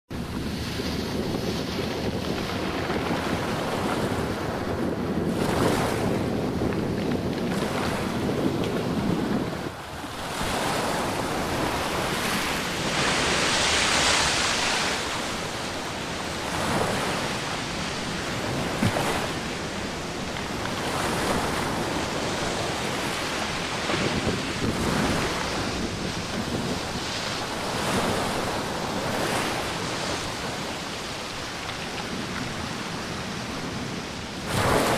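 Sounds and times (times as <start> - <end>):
surf washing onto beach: 0.1 - 34.9
wind rumble on microphone: 0.1 - 34.9.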